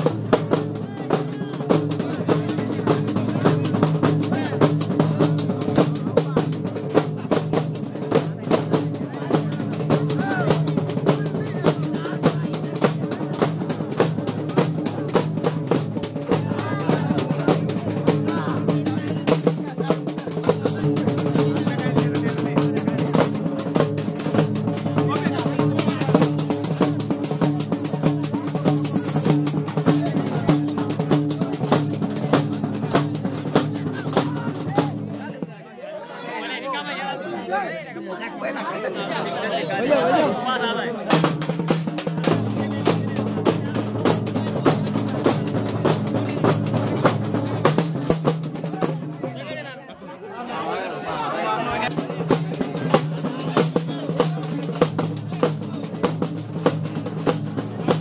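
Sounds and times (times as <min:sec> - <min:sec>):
drums beaten in fast rhythm: 0:00.0 - 0:35.6, 0:39.0 - 0:49.8, 0:51.1 - 0:58.0.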